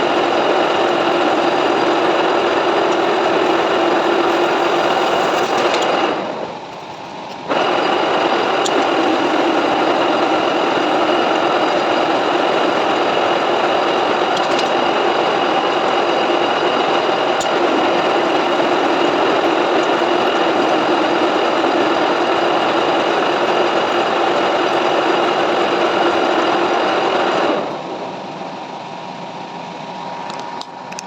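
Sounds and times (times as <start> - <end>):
lathe running hum: 0.0 - 31.0
metal lathe machining whine: 0.0 - 31.0.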